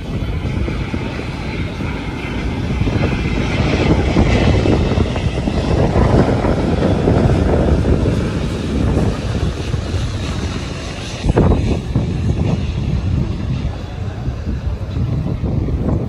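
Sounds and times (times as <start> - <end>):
jet airliner rumbling past: 0.0 - 16.0.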